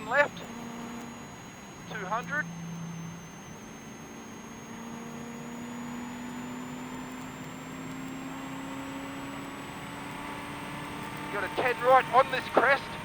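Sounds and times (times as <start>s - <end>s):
car engine from inside cabin: 0.0s - 13.0s
faint high whine: 0.0s - 13.0s.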